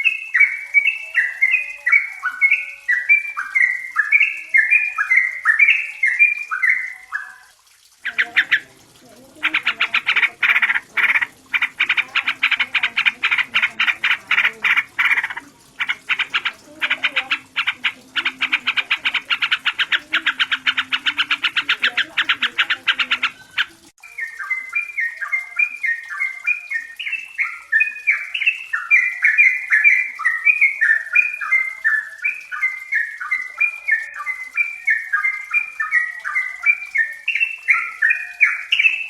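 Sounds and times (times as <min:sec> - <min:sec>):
bulbul calls: 0:00.0 - 0:39.0.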